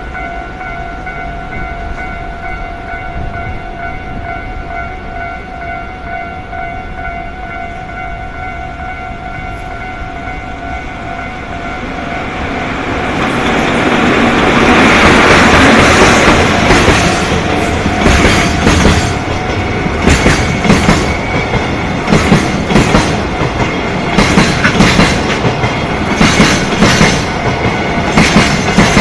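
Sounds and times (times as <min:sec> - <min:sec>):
freight train passing: 0:00.0 - 0:29.0.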